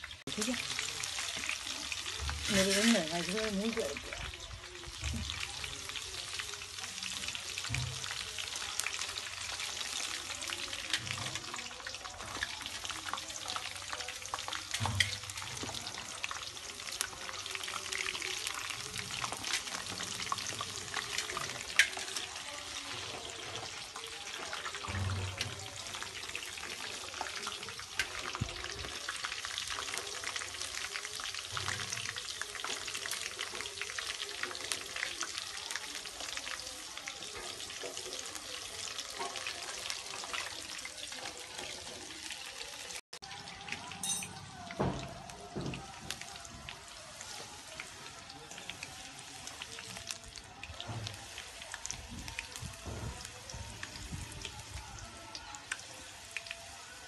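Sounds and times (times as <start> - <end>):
okra sizzling in hot oil: 0.0 - 57.0.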